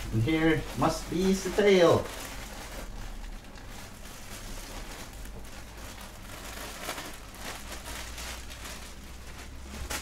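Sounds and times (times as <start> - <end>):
low steady hum: 0.0 - 10.0
plastic wrapping crinkling: 0.0 - 10.0.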